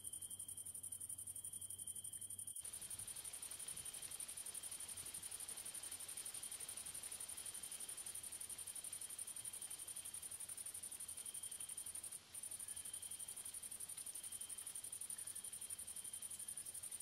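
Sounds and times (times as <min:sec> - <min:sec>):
low insect chirp: 0:00.0 - 0:17.0.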